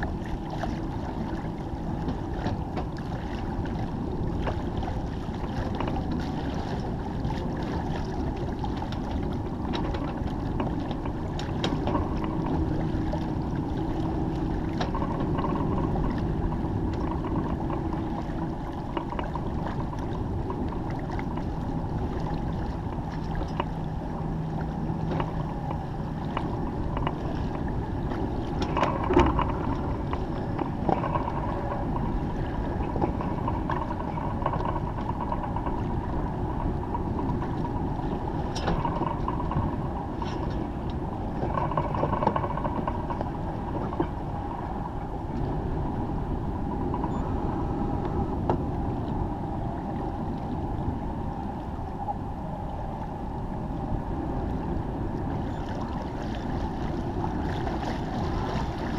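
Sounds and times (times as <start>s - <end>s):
water rushing along hull: 0.0s - 58.9s
wind on microphone: 0.0s - 58.9s.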